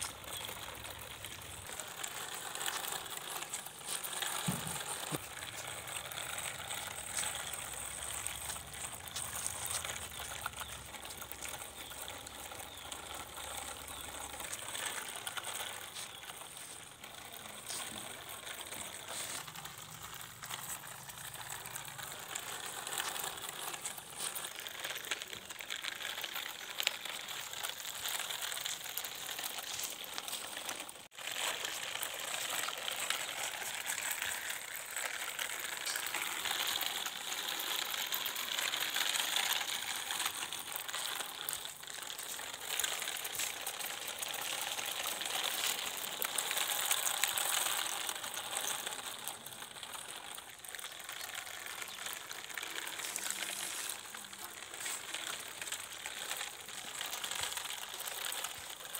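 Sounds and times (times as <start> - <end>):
toy truck rolling over concrete: 0.0 - 58.9.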